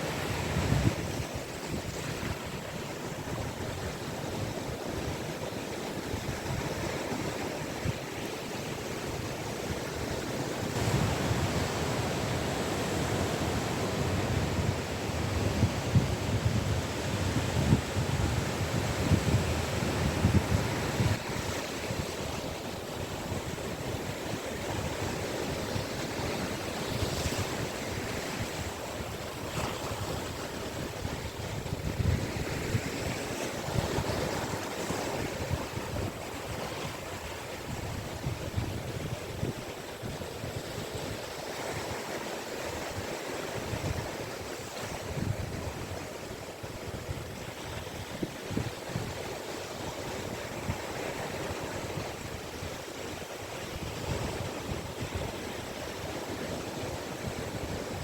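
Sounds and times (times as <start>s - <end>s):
waves breaking on beach: 0.0s - 58.0s
wind rumbling on microphone: 0.0s - 58.0s.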